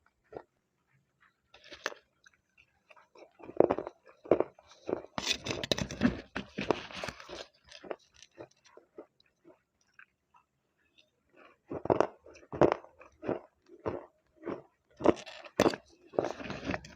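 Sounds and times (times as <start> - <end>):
person crunching and chewing: 1.6 - 16.9.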